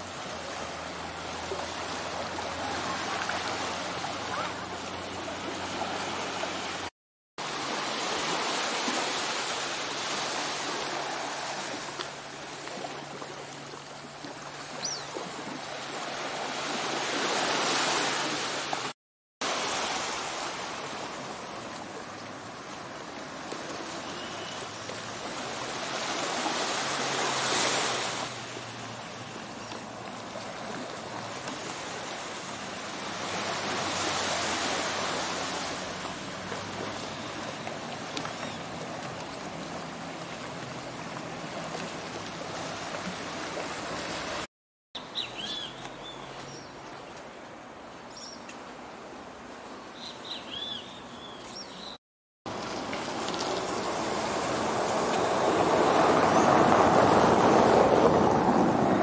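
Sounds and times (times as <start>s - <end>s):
small waves washing on beach: 0.0s - 44.5s, 52.5s - 59.0s.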